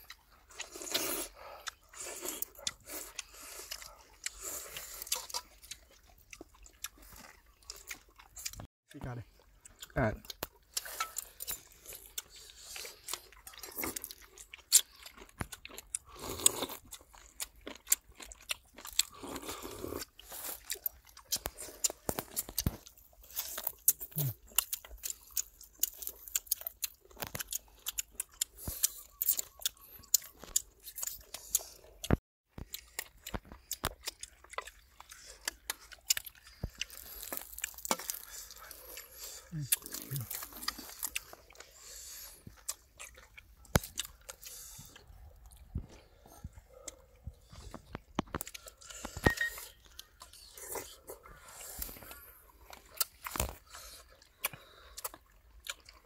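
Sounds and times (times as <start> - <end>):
people chewing and crunching: 0.0 - 56.0.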